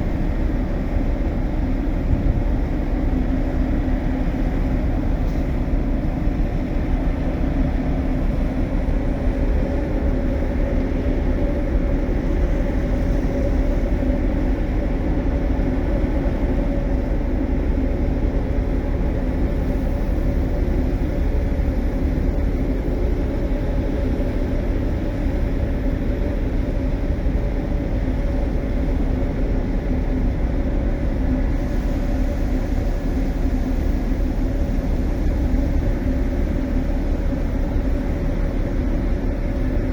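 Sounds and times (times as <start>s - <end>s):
ship engine low drone: 0.0s - 39.9s.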